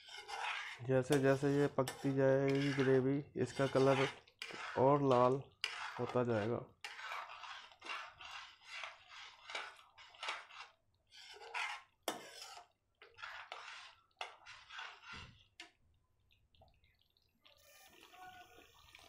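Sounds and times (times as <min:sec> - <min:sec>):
metal spoon scraping metal pot: 0:00.0 - 0:15.7.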